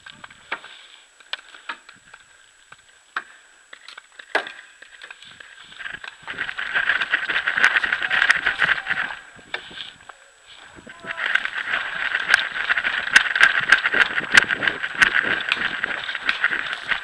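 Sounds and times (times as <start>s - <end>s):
rustling through dry grass: 0.0s - 17.0s.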